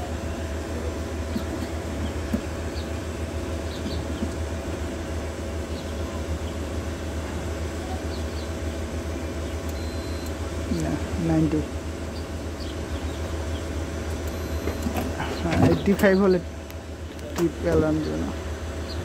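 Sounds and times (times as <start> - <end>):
machinery humming: 0.0 - 19.0.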